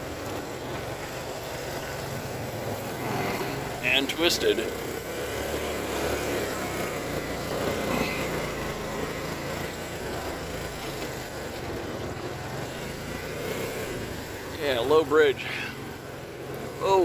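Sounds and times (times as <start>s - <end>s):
quad engine running at low speed: 0.0s - 17.0s.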